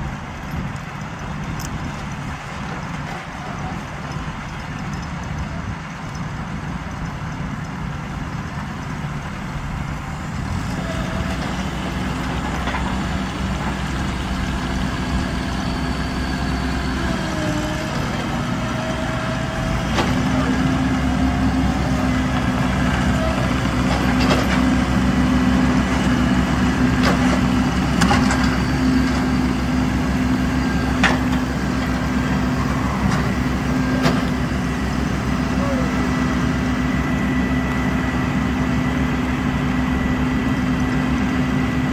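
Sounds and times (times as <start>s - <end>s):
heavy vehicle engine running: 0.0s - 41.9s.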